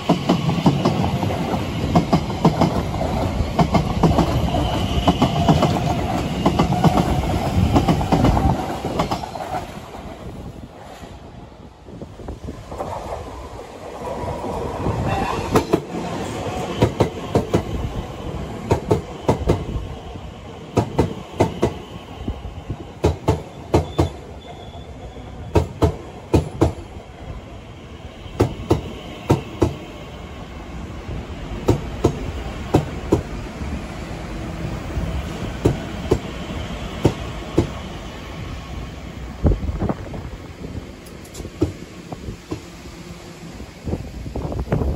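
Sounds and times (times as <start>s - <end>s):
electric train rumbling past: 0.0s - 44.9s.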